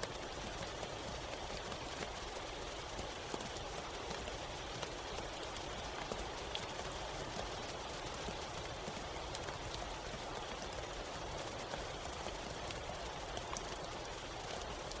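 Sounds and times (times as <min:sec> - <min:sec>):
raindrops striking close by: 0:00.0 - 0:15.0
steady rain hiss: 0:00.0 - 0:15.0.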